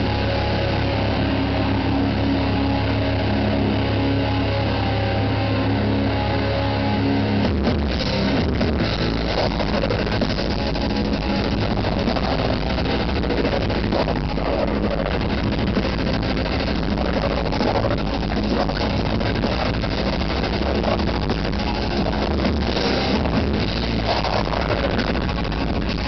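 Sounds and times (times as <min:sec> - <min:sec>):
distorted electric guitars: 0:00.0 - 0:26.0
drums: 0:00.0 - 0:26.0.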